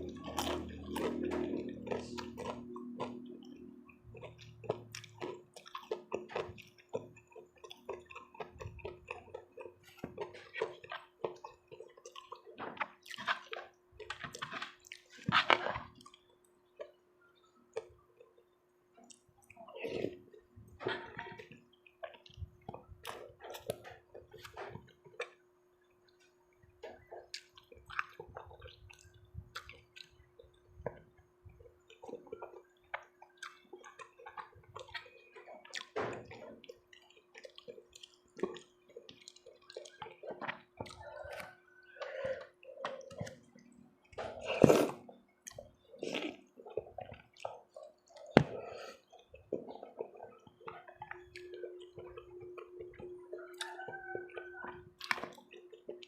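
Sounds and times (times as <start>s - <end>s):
wet chewing and slurping: 0.0s - 56.0s.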